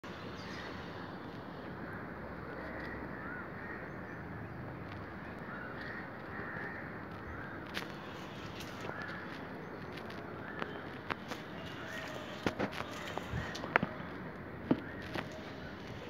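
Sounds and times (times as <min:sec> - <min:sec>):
outdoor background rush: 0:00.0 - 0:16.0.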